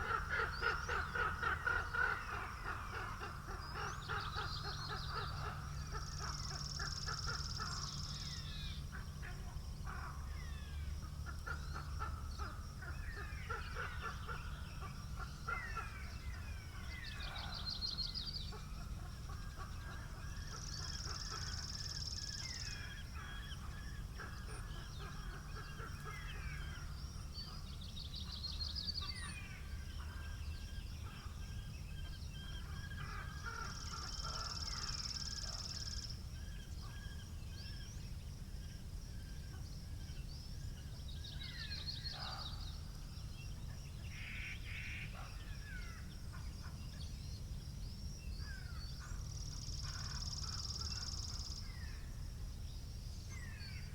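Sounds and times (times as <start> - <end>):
low rumble of wind: 0.0 - 53.9.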